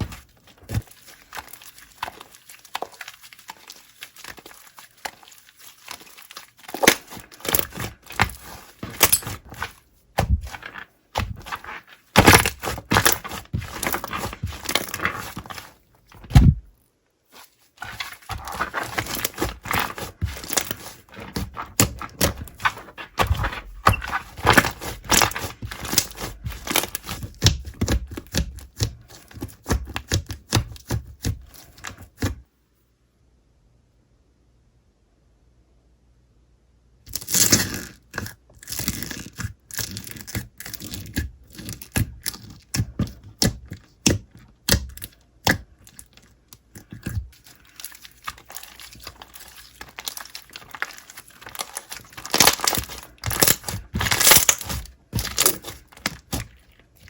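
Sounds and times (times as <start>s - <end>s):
slime crackling and popping: 0.0s - 16.6s, 17.4s - 31.3s, 37.1s - 57.0s.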